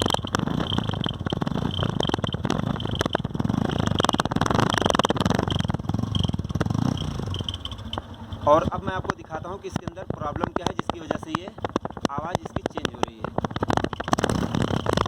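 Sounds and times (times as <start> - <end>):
motorcycle engine idling unevenly: 0.0 - 15.0.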